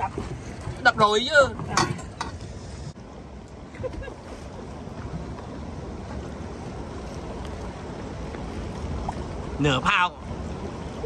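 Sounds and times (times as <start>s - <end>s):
moving water: 0.0s - 11.0s.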